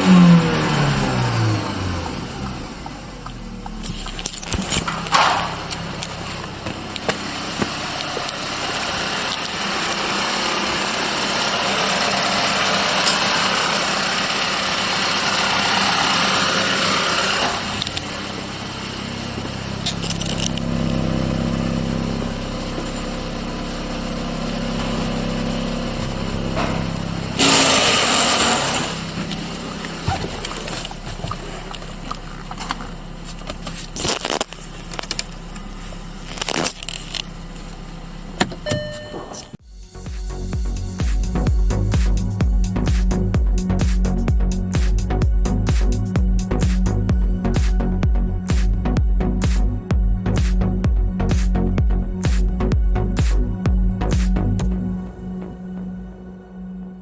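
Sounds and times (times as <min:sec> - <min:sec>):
car engine idling: 0:00.0 - 0:56.5.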